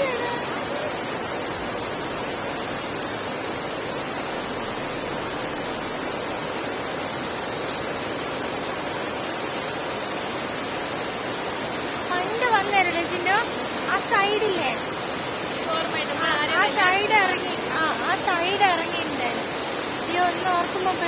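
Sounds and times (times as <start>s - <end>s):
water rushing through dam spillway: 0.0s - 21.0s.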